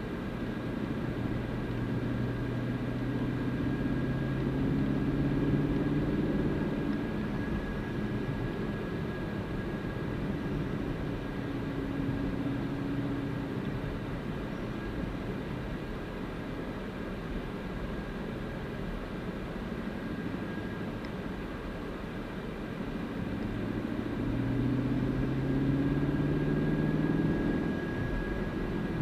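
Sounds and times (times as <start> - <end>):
car engine drone: 0.0 - 29.0
road and wind noise: 0.0 - 29.0.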